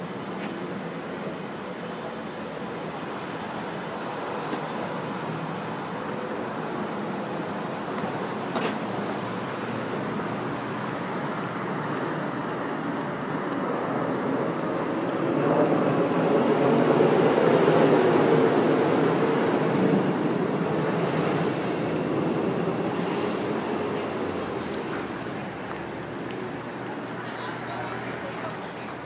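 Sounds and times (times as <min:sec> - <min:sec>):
rumble of passing vehicle: 0:02.6 - 0:29.0.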